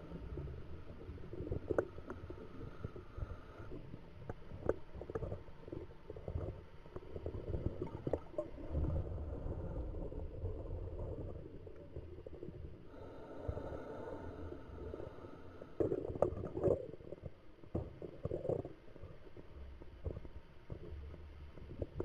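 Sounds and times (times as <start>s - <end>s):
regulator bubbles underwater: 0.0s - 22.0s.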